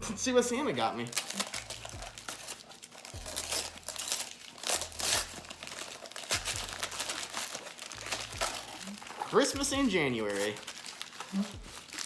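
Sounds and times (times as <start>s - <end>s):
wrapping paper tearing and crinkling: 0.7s - 12.0s.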